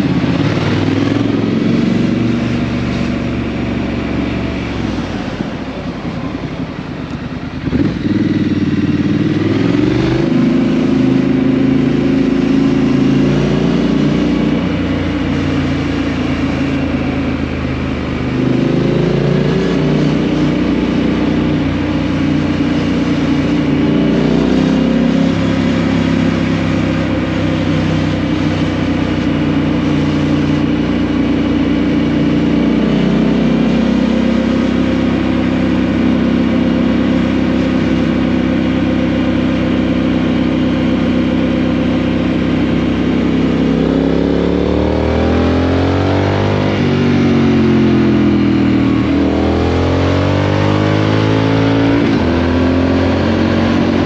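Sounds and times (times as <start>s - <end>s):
motorcycle engine on the road: 0.0s - 54.0s.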